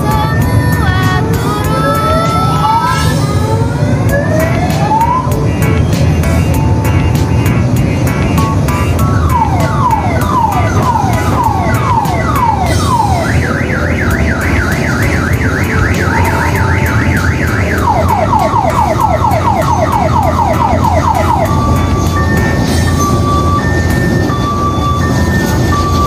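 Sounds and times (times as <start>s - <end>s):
electronic siren wailing: 0.0s - 26.0s
low rumble of train running: 0.0s - 26.0s.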